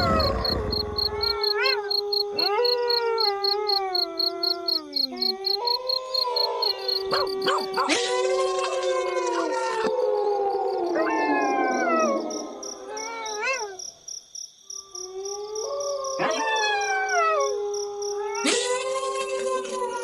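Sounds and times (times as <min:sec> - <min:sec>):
wolves howling: 0:00.0 - 0:13.8, 0:15.1 - 0:18.5.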